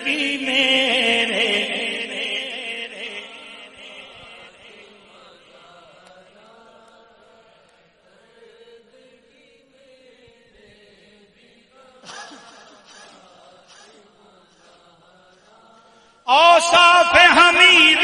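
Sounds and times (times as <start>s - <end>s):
men chanting: 0.0s - 18.0s.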